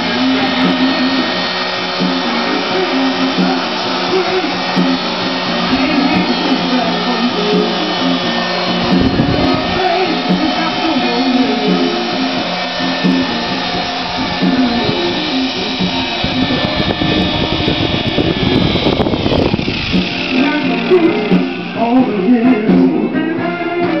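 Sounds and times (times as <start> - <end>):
music: 0.0 - 24.0
rotor wash on microphone: 0.0 - 24.0
toy helicopter whirring: 0.0 - 24.0.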